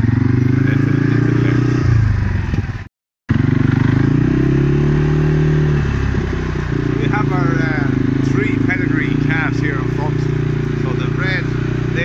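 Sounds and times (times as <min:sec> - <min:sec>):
small vehicle engine running slowly: 0:00.0 - 0:12.0.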